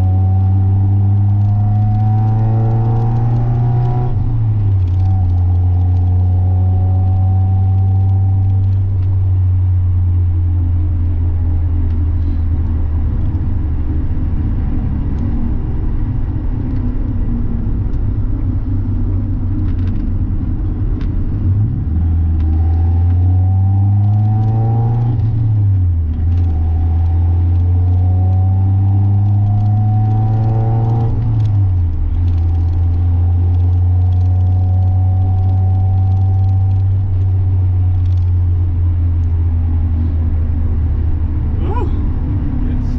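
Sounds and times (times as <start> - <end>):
car engine revving: 0.0 - 42.9
road rumble: 0.0 - 42.9.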